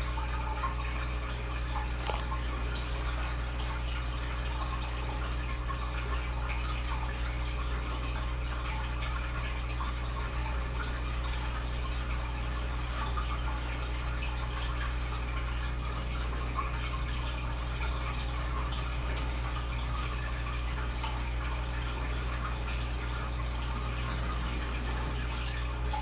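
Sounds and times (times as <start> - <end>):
steady low hum: 0.0 - 26.0
water dripping: 0.0 - 26.0.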